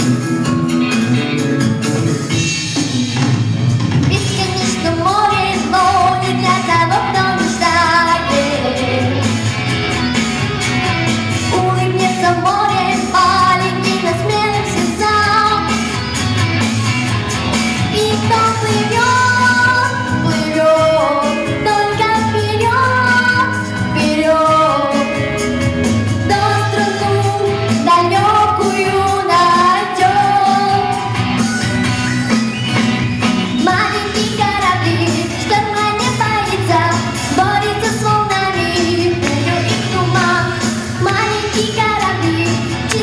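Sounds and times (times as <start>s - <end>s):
instrumental backing track: 0.0s - 43.0s
steady bass line: 0.0s - 43.0s
woman singing pop song: 4.0s - 9.8s, 11.4s - 16.4s, 17.7s - 32.0s, 33.4s - 43.0s.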